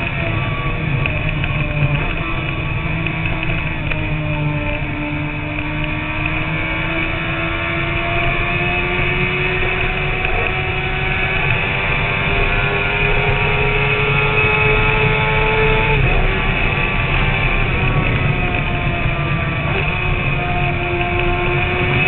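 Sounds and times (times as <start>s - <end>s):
motorcycle engine cruising: 0.0s - 22.0s
wind noise: 0.0s - 22.0s.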